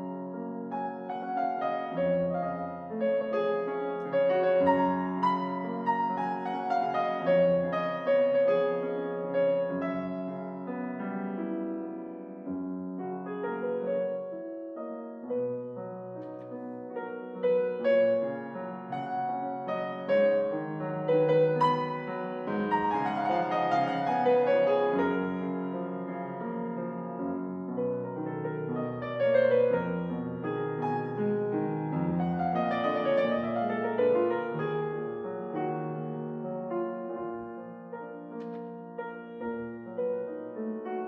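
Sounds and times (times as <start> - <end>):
gentle piano music: 0.0 - 41.0.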